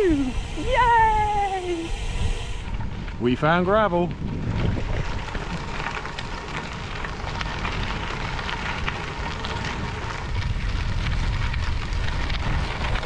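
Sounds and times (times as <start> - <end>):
bicycle tyres crunching on gravel: 0.0 - 13.0
wind rumble on microphone: 0.0 - 13.0.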